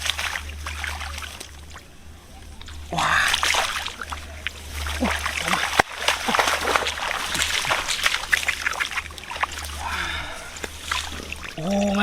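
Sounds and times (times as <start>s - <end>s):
water splashing in muddy field: 0.0s - 12.0s.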